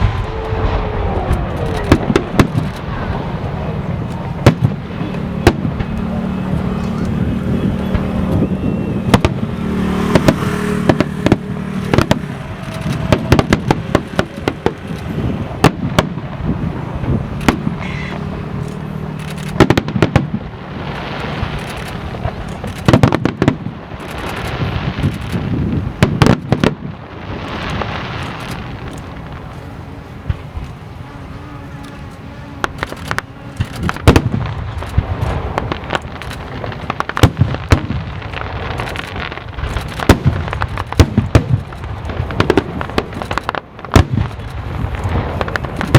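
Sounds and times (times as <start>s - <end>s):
crackling firework hiss: 0.0s - 45.9s
fireworks bangs: 0.0s - 45.9s.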